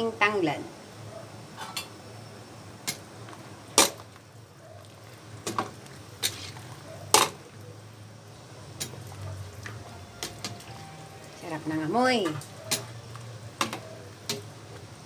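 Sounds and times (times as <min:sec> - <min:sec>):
ladle stirring boiling soup: 0:02.8 - 0:15.0.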